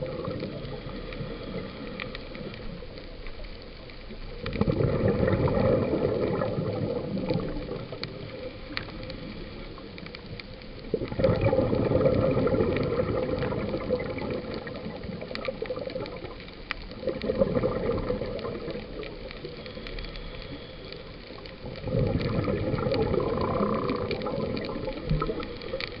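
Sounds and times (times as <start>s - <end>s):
faint clicks: 0.0s - 26.0s
underwater exhaled bubbles gurgling: 0.0s - 26.0s.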